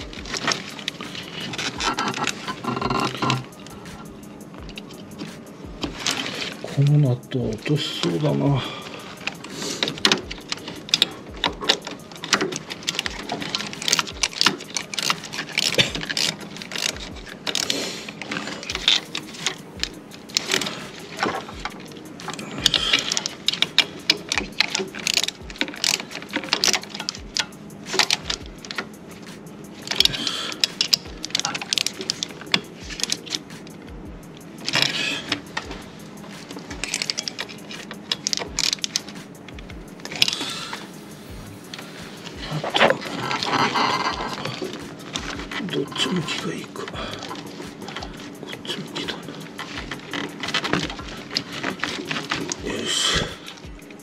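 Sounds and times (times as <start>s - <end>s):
hand tools clinking on metal: 0.0s - 33.8s, 34.6s - 54.0s
socket ratchet clicking: 0.0s - 54.0s.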